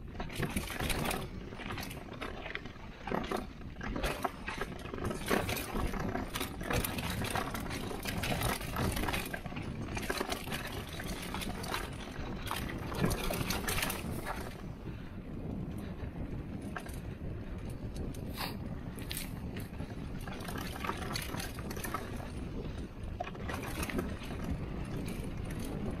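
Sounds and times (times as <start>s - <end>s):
bike rattling with sharp clacks: 0.0s - 26.0s
bike tyres crunching over dirt: 0.0s - 26.0s.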